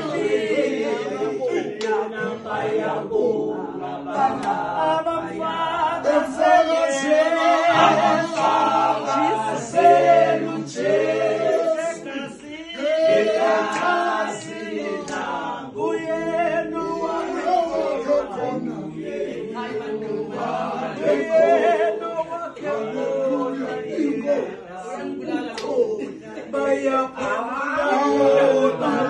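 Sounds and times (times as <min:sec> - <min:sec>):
choir singing in harmony: 0:00.0 - 0:29.0.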